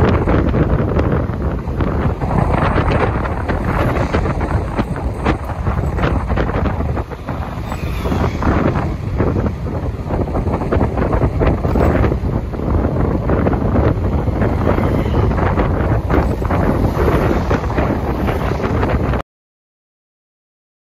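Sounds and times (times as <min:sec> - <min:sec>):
steady low rumble: 0:00.0 - 0:19.2
wind buffeting microphone: 0:00.0 - 0:19.2.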